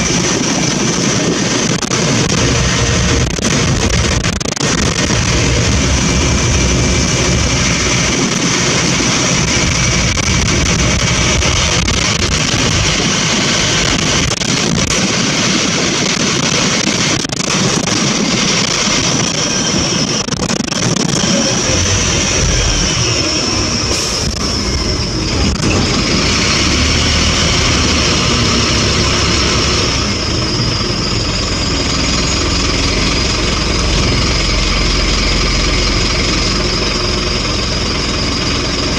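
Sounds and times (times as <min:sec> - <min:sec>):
bus engine and road noise: 0:00.0 - 0:38.9
steady high whine: 0:00.0 - 0:38.9.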